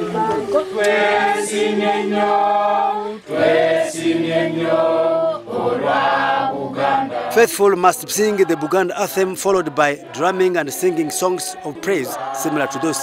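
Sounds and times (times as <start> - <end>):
group singing praise song: 0.0 - 13.0.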